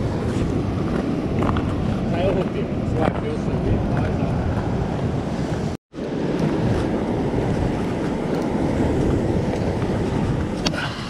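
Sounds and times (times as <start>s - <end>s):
ocean surf against rocks: 0.0s - 11.0s
wind buffeting microphone: 0.0s - 11.0s.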